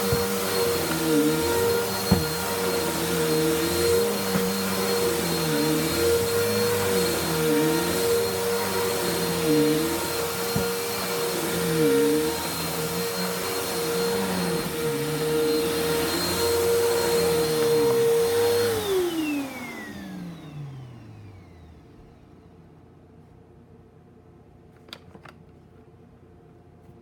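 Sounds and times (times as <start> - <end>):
vacuum cleaner running: 0.0 - 22.4.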